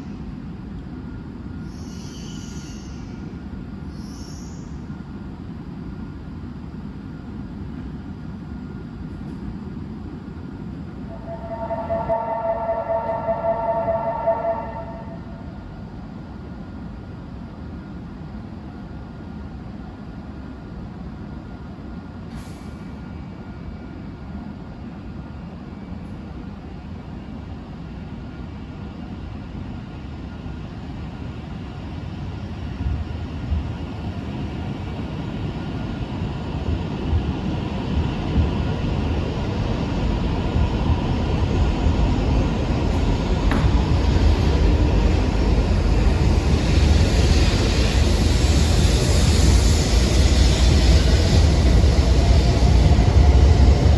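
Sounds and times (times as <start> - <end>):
train running noise: 0.0 - 53.9.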